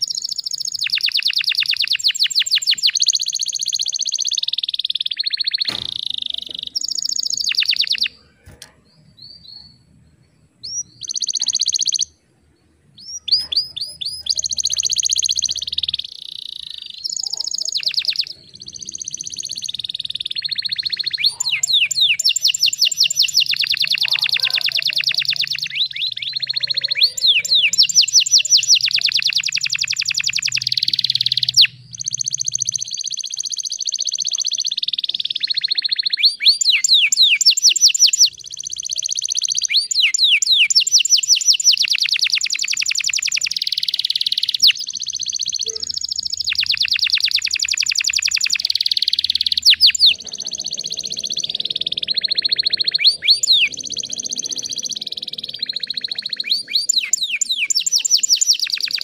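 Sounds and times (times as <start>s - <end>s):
canary singing fast trills: 0.0s - 59.0s.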